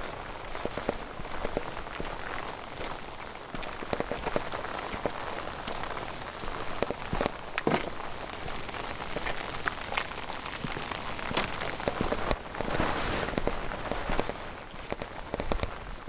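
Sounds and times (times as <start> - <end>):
raindrops tapping close by: 0.0 - 16.0
steady rain falling: 0.0 - 16.0.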